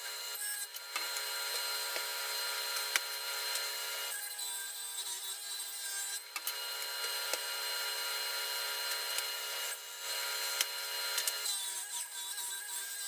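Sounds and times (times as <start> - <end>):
table saw ripping wood: 0.3 - 13.0.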